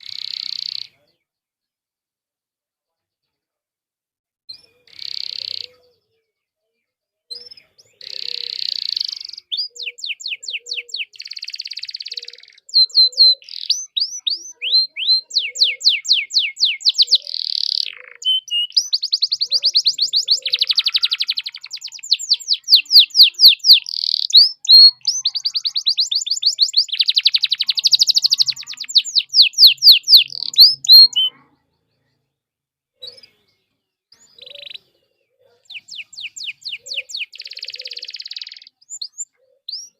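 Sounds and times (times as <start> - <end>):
canary singing trills: 0.0 - 1.2, 4.5 - 6.3, 7.3 - 32.3, 33.0 - 39.9.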